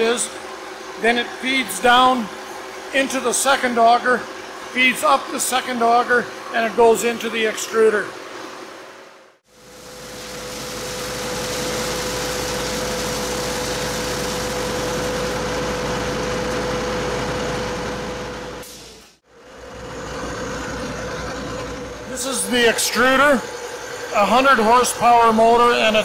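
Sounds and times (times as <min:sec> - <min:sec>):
extrusion machine humming and whining: 0:00.0 - 0:08.7, 0:09.6 - 0:26.0.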